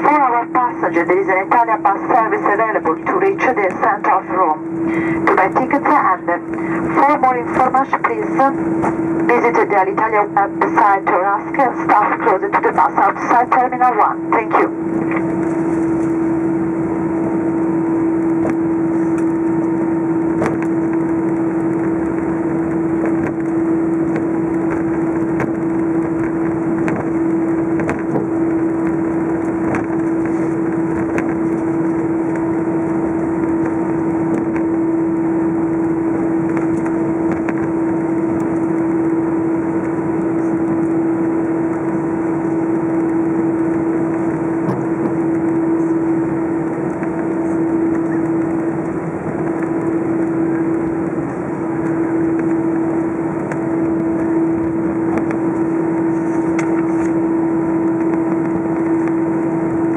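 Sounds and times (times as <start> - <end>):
jet engines humming in cabin: 0.0 - 59.9.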